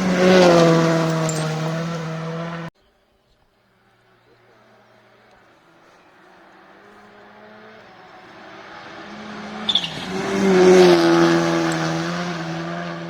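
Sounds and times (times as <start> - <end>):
rally car passing by: 0.0 - 2.7, 4.4 - 13.0.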